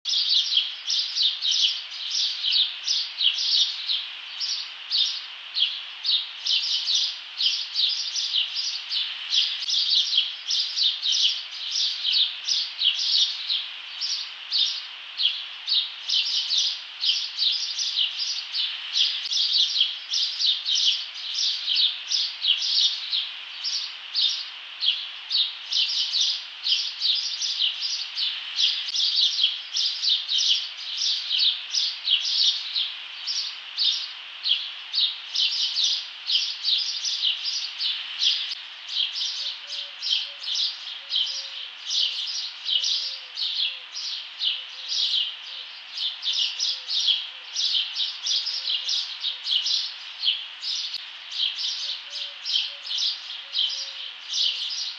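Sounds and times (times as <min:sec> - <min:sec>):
small birds chirping: 0:00.1 - 0:54.9.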